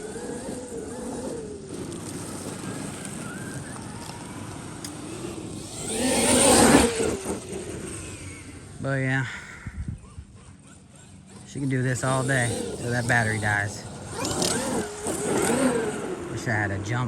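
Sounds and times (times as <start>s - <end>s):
electric toy truck motor whining: 0.0s - 17.0s
tyre noise: 0.0s - 17.0s.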